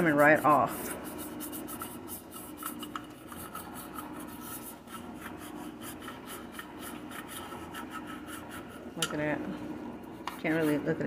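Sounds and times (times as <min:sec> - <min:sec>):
toothbrush scrubbing metal pan: 0:00.0 - 0:09.0, 0:10.3 - 0:11.0.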